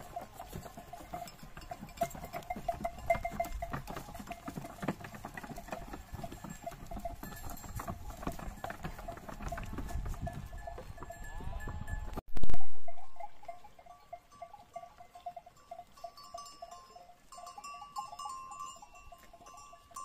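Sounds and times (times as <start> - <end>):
sheep hooves pattering: 0.0 - 12.2, 12.9 - 20.0.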